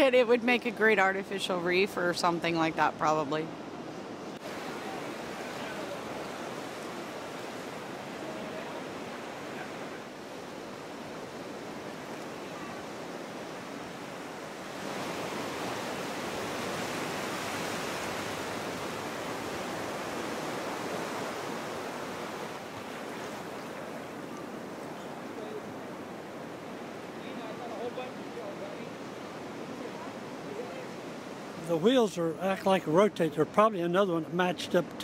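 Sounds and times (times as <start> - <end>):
ocean surf washing on beach: 3.5 - 35.0.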